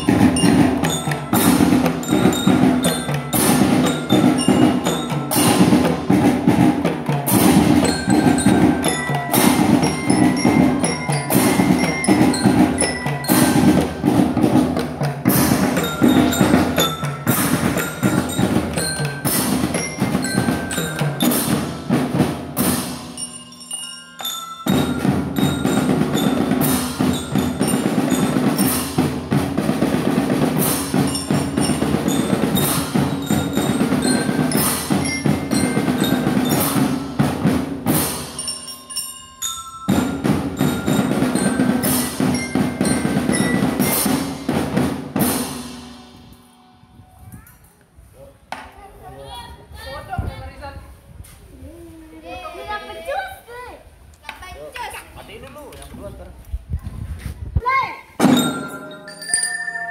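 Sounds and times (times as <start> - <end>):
glockenspiel melody: 0.0 - 47.2, 58.2 - 59.9
drums and cymbals beating: 0.0 - 47.5, 57.6 - 59.9.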